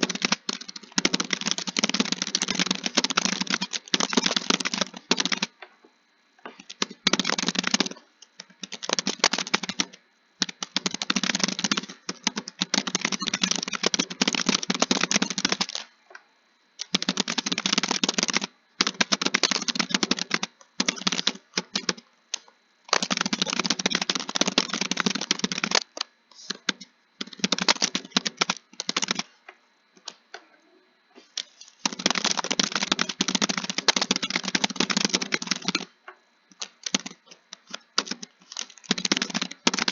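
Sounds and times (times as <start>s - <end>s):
fast typing on keyboard: 0.0s - 5.6s, 6.5s - 15.9s, 16.8s - 29.3s, 31.7s - 39.9s.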